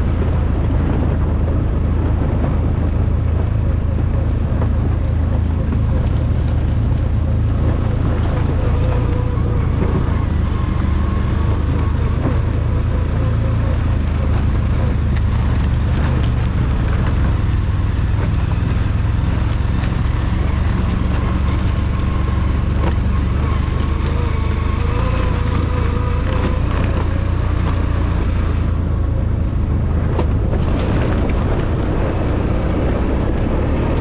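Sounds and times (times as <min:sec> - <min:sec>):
atv engine running steadily: 0:00.0 - 0:34.0.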